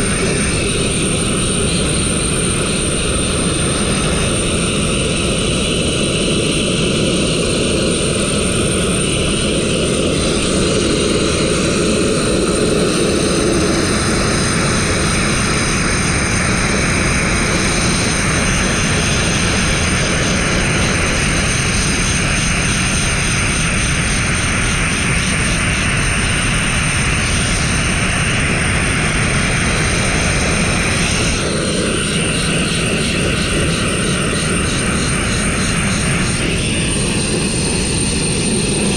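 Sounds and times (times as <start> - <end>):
sandblaster hissing: 0.0 - 38.9.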